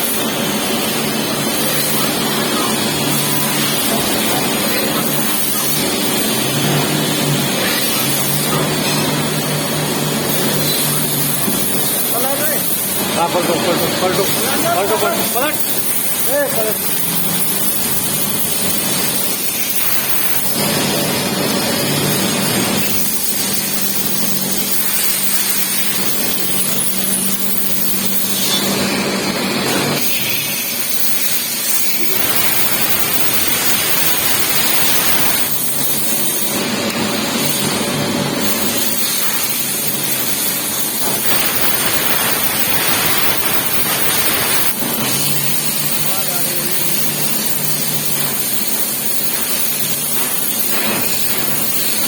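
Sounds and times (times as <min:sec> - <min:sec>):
machine tool hissing: 0:00.0 - 0:29.0, 0:29.6 - 0:52.0
machine hum: 0:00.0 - 0:52.0.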